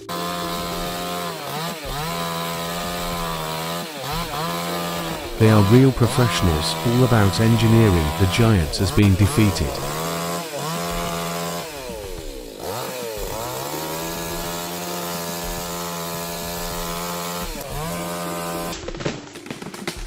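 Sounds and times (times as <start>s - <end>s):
chainsaw revving: 0.0s - 18.9s.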